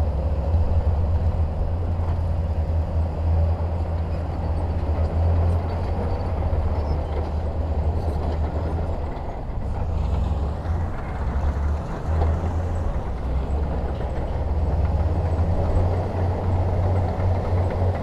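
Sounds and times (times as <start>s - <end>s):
deep diesel engine rumble: 0.0s - 18.0s.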